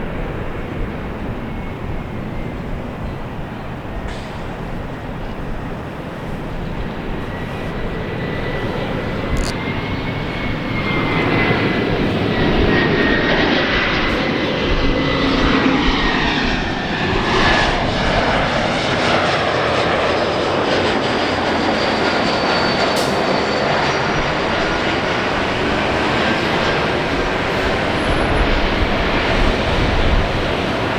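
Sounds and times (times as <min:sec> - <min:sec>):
airliner engines rushing: 0:00.0 - 0:30.9
high engine whine: 0:00.0 - 0:30.9.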